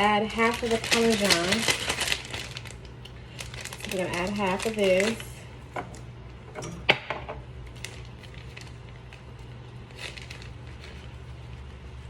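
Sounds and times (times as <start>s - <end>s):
pasta sauce crackling: 0.0s - 5.7s, 7.6s - 12.0s
steady low hum: 0.0s - 12.0s.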